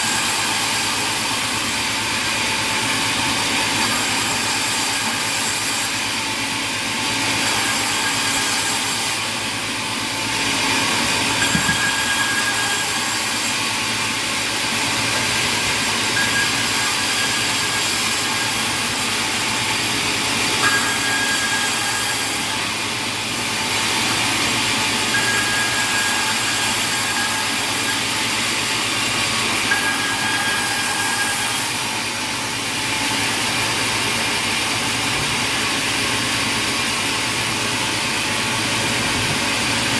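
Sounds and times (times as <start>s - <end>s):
sawmill machinery din: 0.0s - 39.9s.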